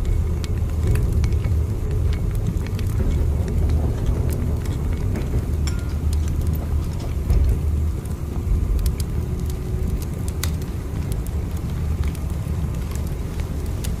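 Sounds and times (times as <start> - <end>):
light clicks and ticks: 0.0 - 14.0
train rumble inside carriage: 0.0 - 14.0.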